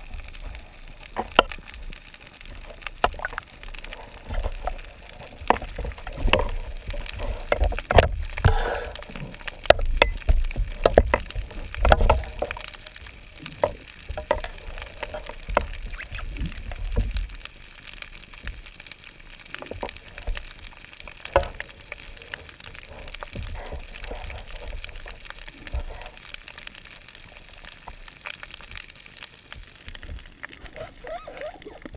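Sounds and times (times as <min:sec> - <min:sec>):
low rumbling water movement: 0:00.0 - 0:31.9
sharp underwater clicks and knocks: 0:00.0 - 0:31.9.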